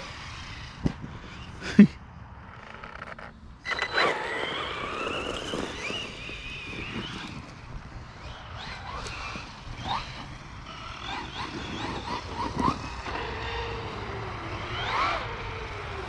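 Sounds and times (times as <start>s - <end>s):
electric motor whining: 2.5s - 16.0s.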